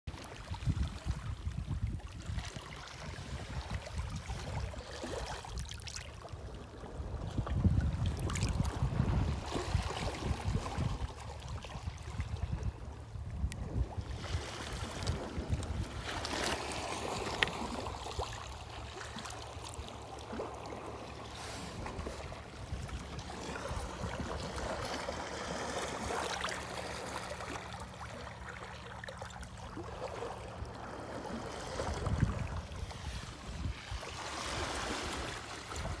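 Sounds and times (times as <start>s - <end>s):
small waves lapping over rocks: 0.1s - 12.8s, 13.4s - 36.0s.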